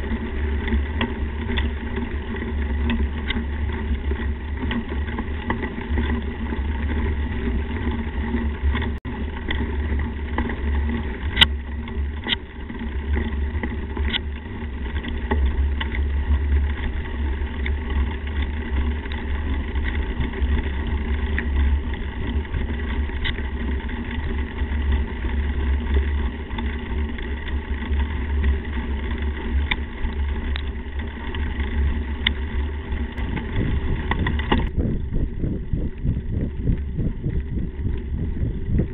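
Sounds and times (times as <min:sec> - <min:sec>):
bike clicks and rattles: 0:00.0 - 0:38.9
tyre and wind rumble: 0:00.0 - 0:38.9.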